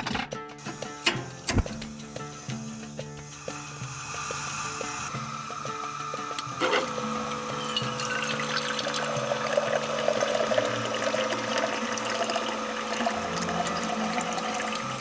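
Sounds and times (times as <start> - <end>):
background music with held notes: 0.0 - 15.0
running water rushing: 0.6 - 15.0.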